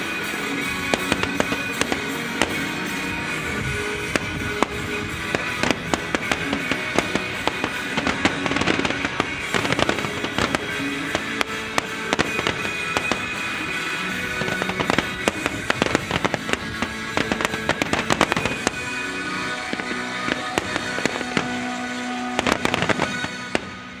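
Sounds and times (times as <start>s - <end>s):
firework shells bursting: 0.0s - 23.8s
music with held tones: 0.0s - 24.0s.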